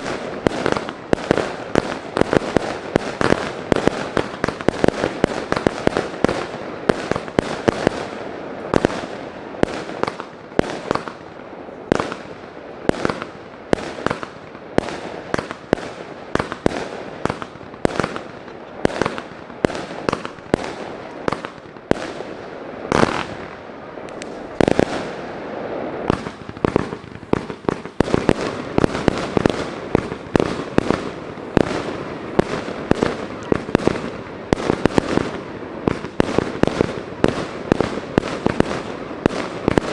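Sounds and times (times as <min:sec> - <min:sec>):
fireworks bangs: 0:00.0 - 0:39.9
fireworks crackle: 0:00.0 - 0:39.9.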